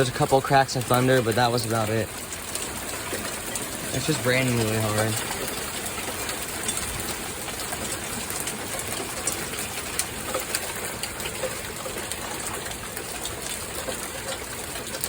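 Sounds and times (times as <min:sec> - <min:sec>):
heavy rain pouring: 0:00.0 - 0:15.0
raindrops ticking on hard surfaces: 0:00.0 - 0:15.0.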